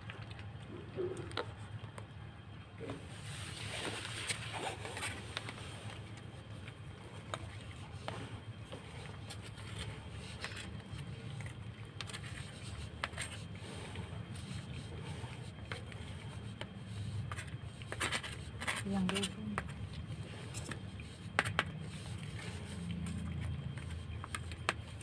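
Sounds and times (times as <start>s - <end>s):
cats crunching dry kibble: 0.0s - 25.0s
steady low hum: 0.0s - 25.0s.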